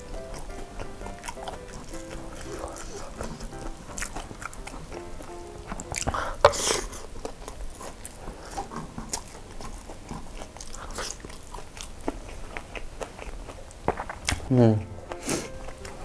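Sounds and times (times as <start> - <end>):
person chewing with wet smacks: 0.0 - 16.0.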